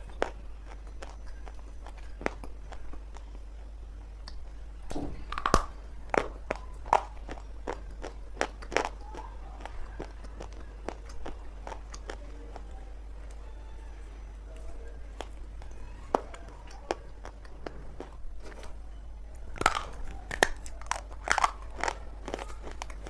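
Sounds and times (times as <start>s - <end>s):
chewing dry clay crunches: 0.0s - 4.6s, 5.2s - 13.4s, 14.5s - 23.0s.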